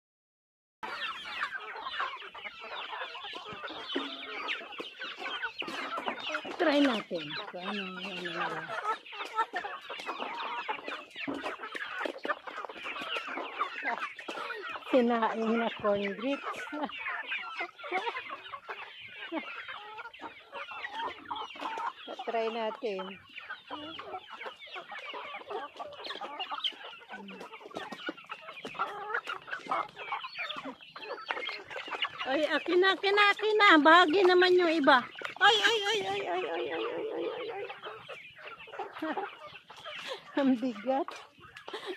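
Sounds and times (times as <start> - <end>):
hens clucking: 0.8 - 41.9.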